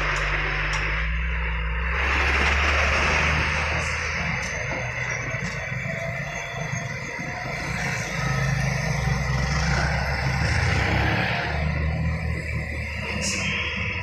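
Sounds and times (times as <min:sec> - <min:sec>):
heavy trucks passing: 0:00.0 - 0:14.0.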